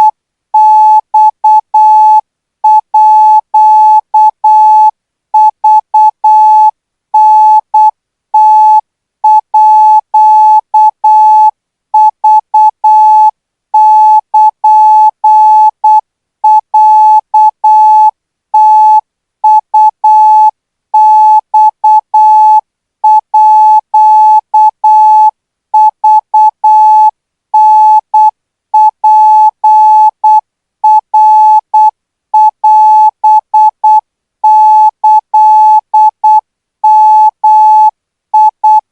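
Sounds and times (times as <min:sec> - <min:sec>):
morse code beeps: 0:00.0 - 0:38.8.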